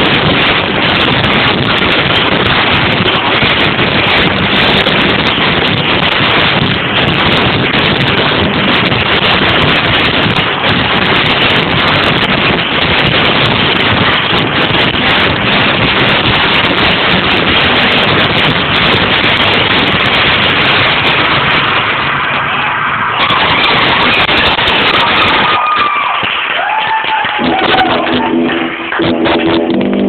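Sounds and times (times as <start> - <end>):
overloaded live venue noise: 0.0 - 30.0.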